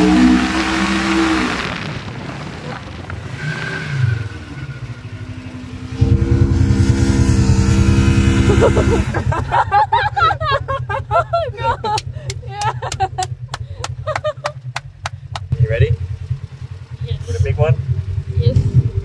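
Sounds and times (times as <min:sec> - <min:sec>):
loud steady engine passing close: 0:00.0 - 0:19.0
off-road vehicle engines: 0:00.0 - 0:19.0.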